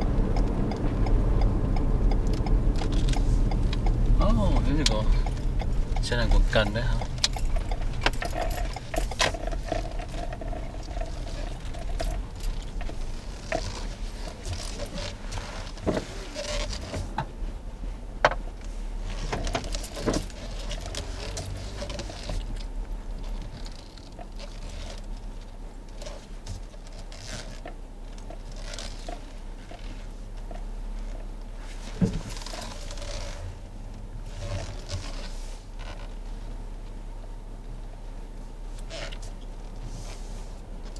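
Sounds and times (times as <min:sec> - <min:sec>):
clicks and rustles: 0:00.0 - 0:17.4, 0:18.3 - 0:36.3
car running hum: 0:00.0 - 0:40.9.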